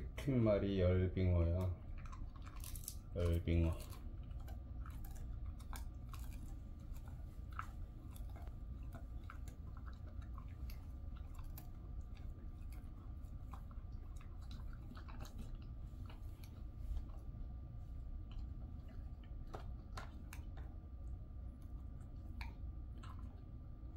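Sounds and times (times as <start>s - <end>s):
dog chewing crunchy treat: 0.3s - 23.9s.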